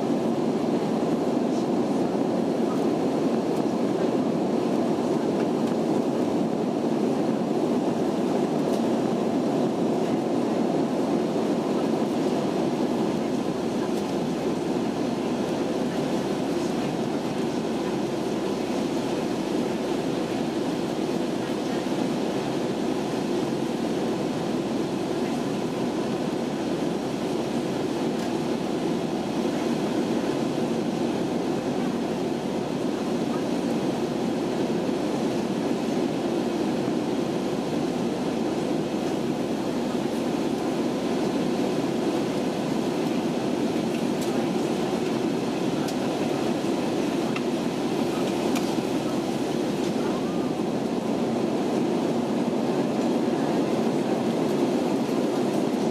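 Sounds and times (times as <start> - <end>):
airplane cabin engine rush: 0.0 - 55.9.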